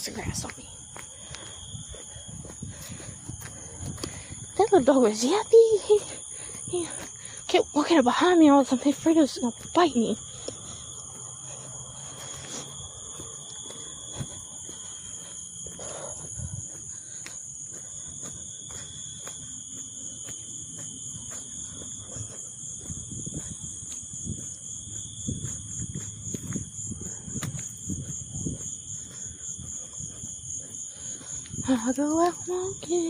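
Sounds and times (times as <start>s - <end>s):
footsteps on a path: 0.0s - 33.0s
insects buzzing: 0.0s - 33.0s.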